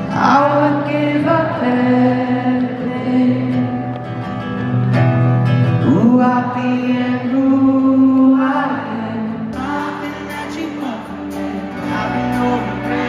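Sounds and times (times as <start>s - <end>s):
man singing live: 0.0s - 4.2s, 5.6s - 13.0s
acoustic guitar: 0.0s - 13.0s.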